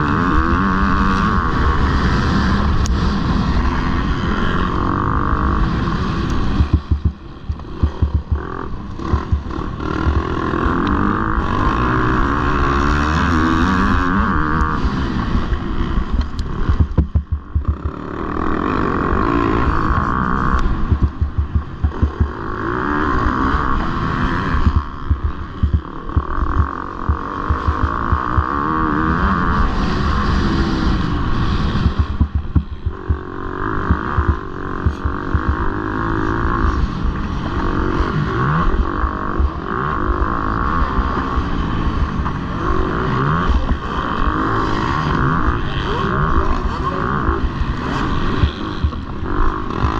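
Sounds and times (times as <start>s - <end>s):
motocross bike engines revving: 0.0s - 49.9s.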